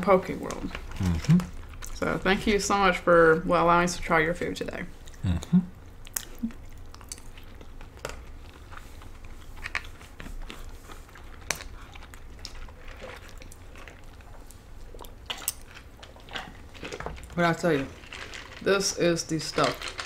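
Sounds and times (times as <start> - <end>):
people chewing food: 0.0 - 3.5, 4.3 - 20.0.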